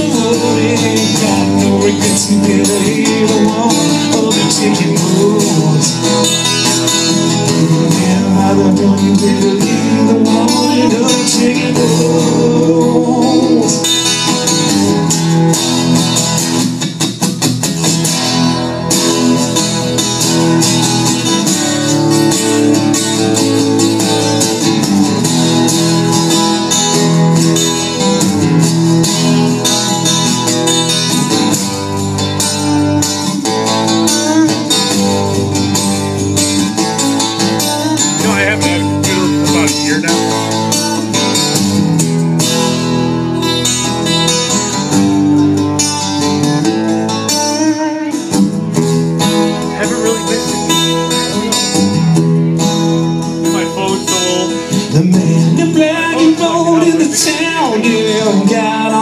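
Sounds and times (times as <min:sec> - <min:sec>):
bluesy live guitar: 0:00.0 - 0:59.0.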